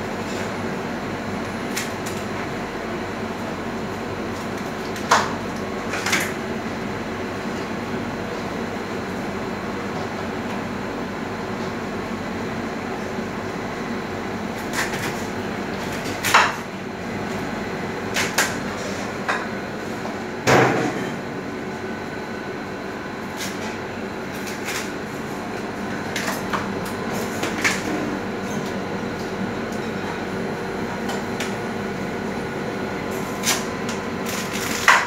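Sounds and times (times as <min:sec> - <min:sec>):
kitchen ventilation hum: 0:00.0 - 0:35.0.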